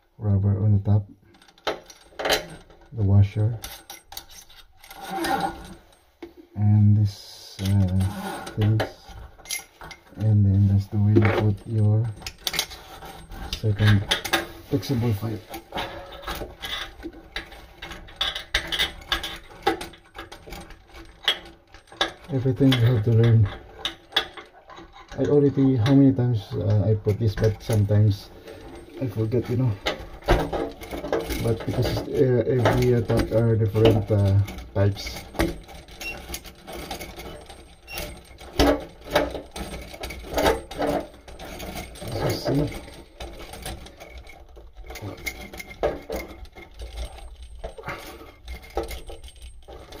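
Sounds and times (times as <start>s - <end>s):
plumbing fittings clicking and rattling: 0.8s - 6.9s, 7.5s - 50.0s.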